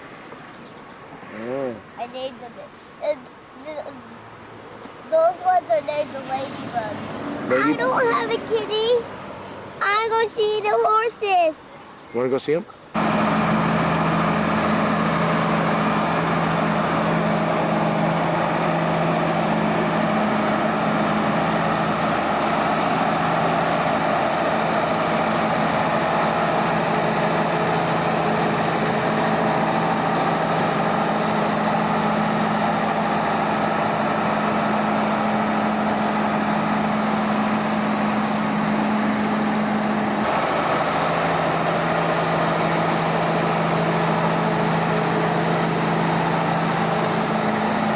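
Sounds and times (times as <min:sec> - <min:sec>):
motor vehicle engine humming: 0:00.0 - 0:47.9.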